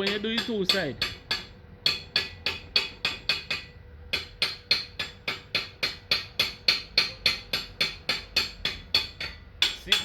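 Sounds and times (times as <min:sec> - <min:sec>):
hammer tapping: 0:00.0 - 0:10.0.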